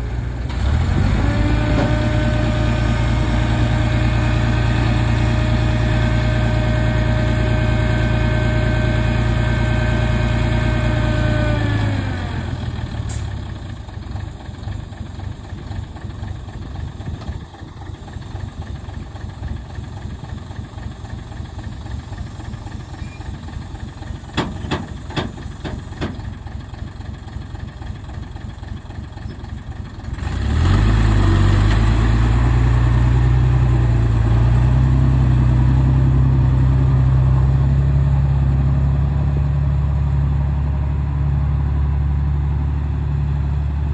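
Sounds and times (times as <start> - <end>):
diesel engine rumbling: 0.0 - 43.9.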